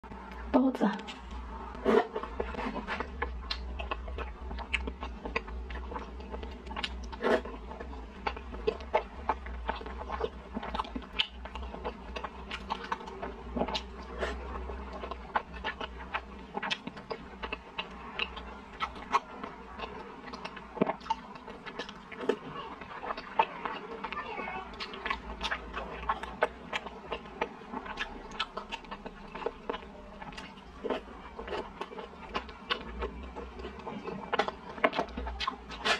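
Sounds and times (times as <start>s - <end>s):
person chewing food: 0.1s - 35.9s.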